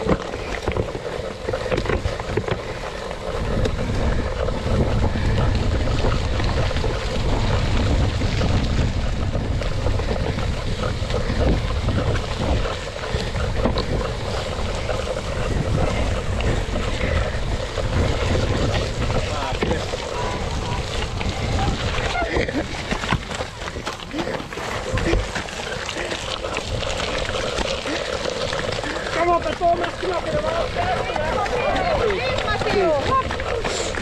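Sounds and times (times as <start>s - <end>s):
bike clicking and knocking: 0.0s - 34.0s
wind buffeting microphone: 0.0s - 34.0s.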